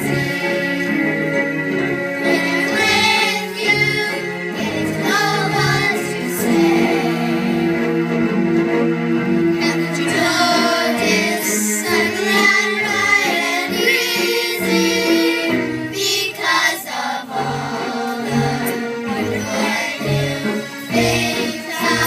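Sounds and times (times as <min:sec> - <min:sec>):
choir singing with accompaniment: 0:00.0 - 0:22.0.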